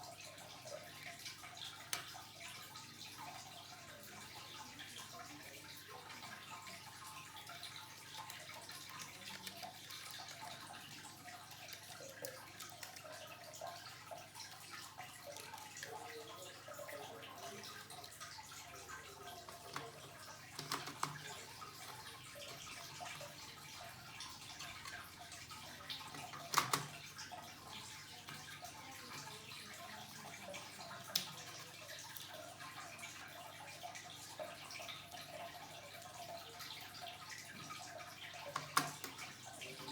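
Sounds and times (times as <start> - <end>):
faint ticking and rustling: 0.0 - 39.9.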